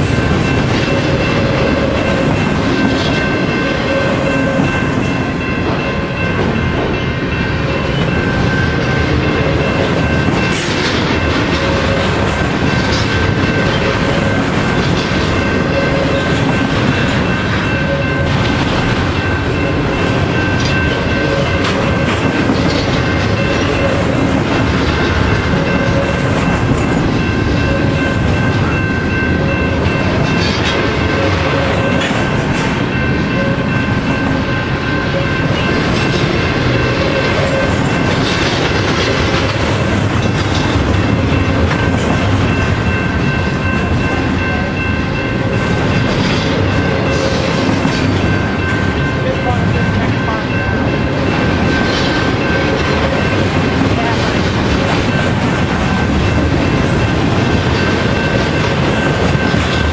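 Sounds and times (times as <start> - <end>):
wheels clickety-clack: 0.0 - 7.0, 7.7 - 34.4, 35.4 - 59.9
train wheels rumbling on rail: 0.0 - 59.9.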